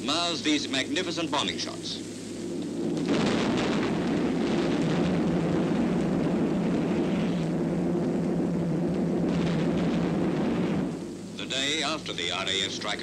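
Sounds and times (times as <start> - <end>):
piston aircraft engines droning: 0.0 - 13.0.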